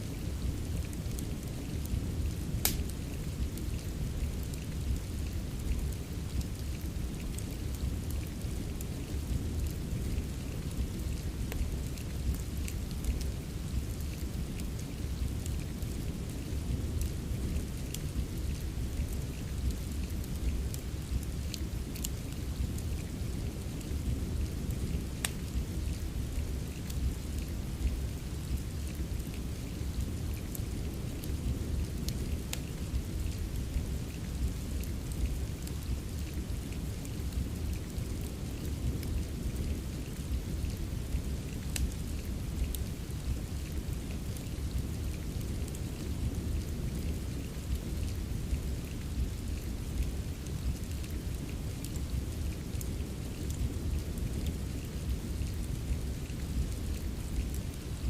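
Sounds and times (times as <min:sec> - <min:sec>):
steady rain rumble: 0:00.0 - 0:58.0
wood fire crackling: 0:00.0 - 0:58.0.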